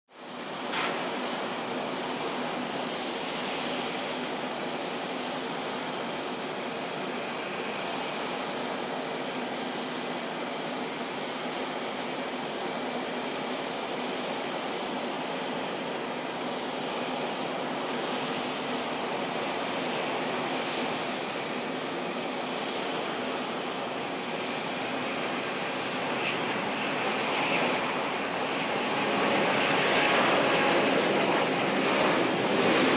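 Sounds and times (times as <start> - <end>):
jet engines rushing and whining: 0.1 - 32.9.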